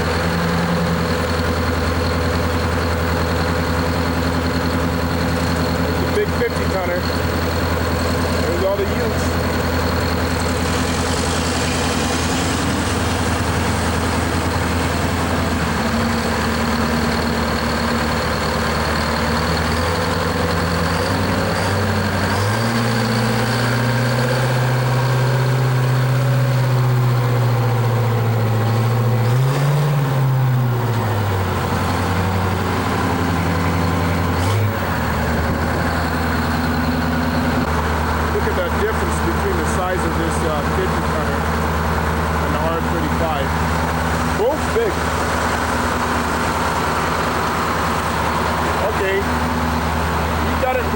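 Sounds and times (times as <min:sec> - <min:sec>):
heavy truck engine running: 0:00.0 - 0:50.9.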